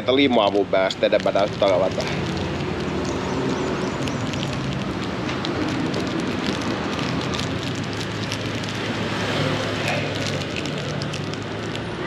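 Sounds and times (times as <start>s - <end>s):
faint crackles: 0.4s - 12.0s.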